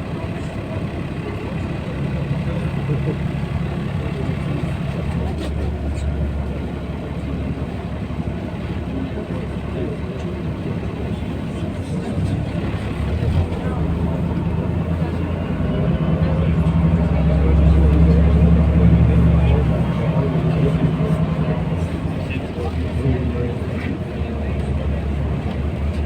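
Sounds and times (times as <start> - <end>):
bus engine and road drone: 0.0 - 26.0.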